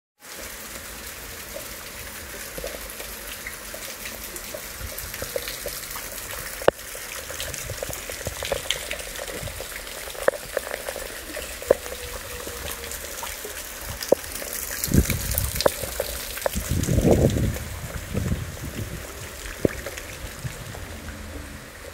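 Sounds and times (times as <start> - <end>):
drips and splashes: 0.2 - 21.9
loud raindrops striking close: 0.2 - 21.9
steady rain hissing: 0.2 - 21.9.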